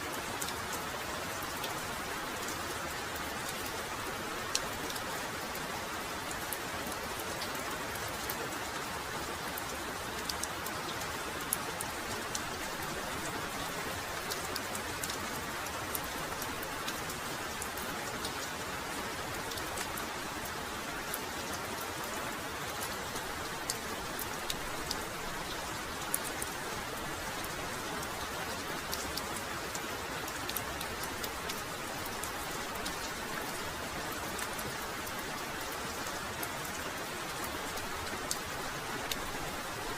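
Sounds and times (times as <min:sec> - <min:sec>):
heavy rain falling: 0:00.0 - 0:39.9
raindrops ticking close by: 0:00.1 - 0:39.9.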